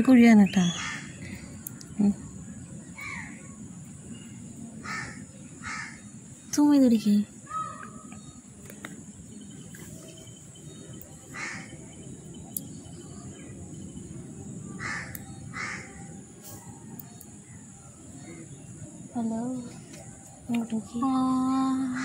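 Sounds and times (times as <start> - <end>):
harsh bird calls: 0.0 - 22.0.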